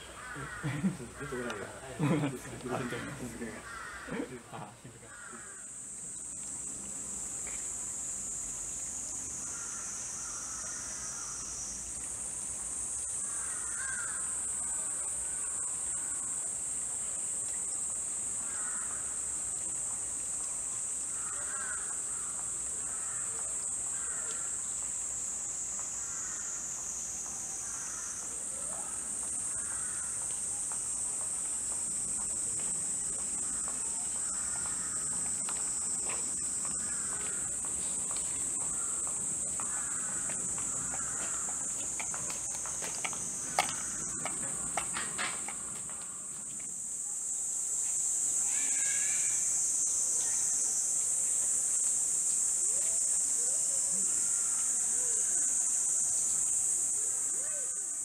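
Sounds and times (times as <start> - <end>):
cicadas shrilling: 0.0 - 58.0.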